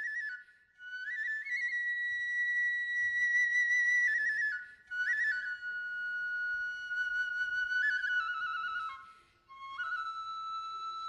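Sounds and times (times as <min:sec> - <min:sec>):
bamboo flute playing held notes: 0:00.0 - 0:11.0.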